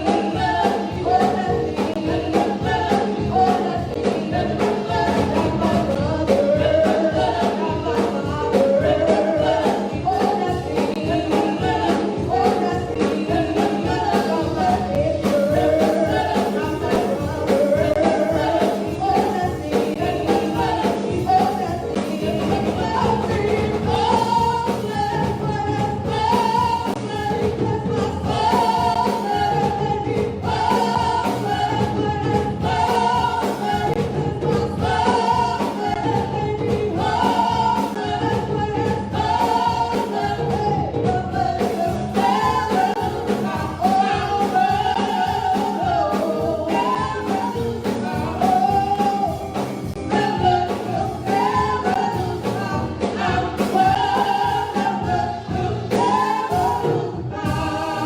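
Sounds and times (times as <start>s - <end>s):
gospel singers: 0.0s - 58.0s
live band playing: 0.0s - 58.0s.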